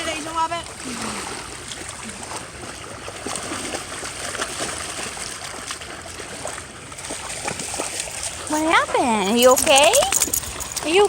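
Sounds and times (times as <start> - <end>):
small water splashes: 0.0 - 11.0
water sloshing and lapping: 0.0 - 11.0.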